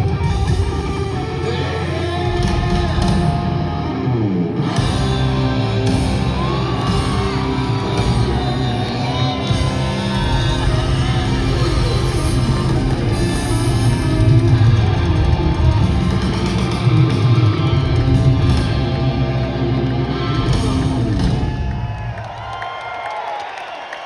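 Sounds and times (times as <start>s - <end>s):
electric guitar: 0.0s - 22.1s
rock band playing: 0.0s - 22.1s.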